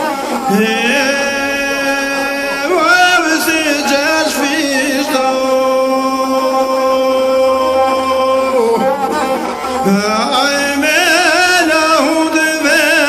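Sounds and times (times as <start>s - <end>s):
person singing folk song solo: 0.2s - 13.0s.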